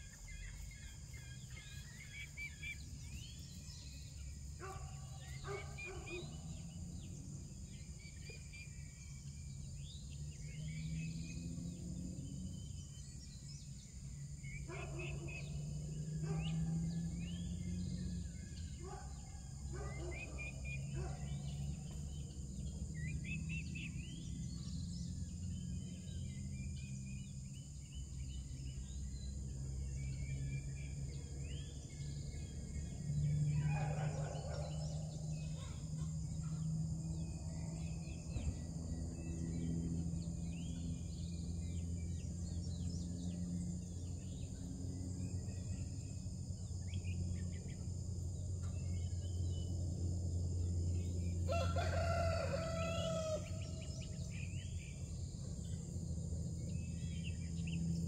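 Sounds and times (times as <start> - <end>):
poultry and birds calling: 0.0 - 58.0
steady low hum: 0.0 - 58.0.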